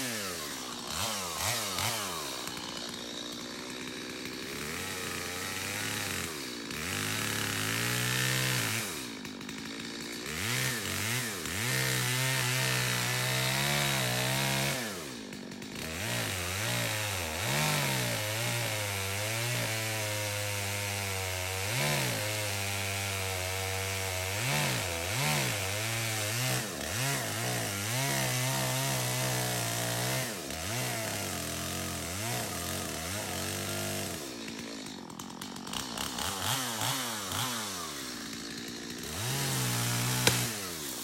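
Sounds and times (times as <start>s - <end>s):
chainsaw engine revving: 0.0s - 41.0s.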